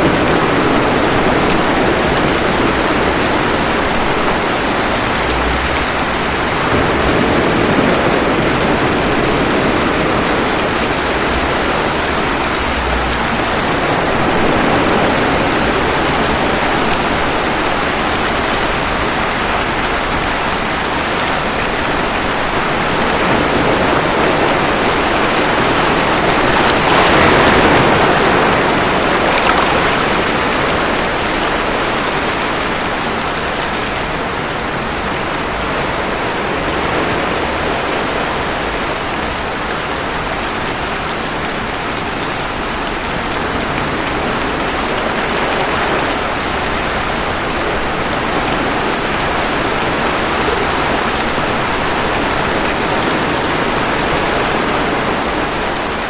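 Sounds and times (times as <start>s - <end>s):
ocean waves washing ashore: 0.0s - 56.0s
steady rain falling: 0.0s - 56.0s.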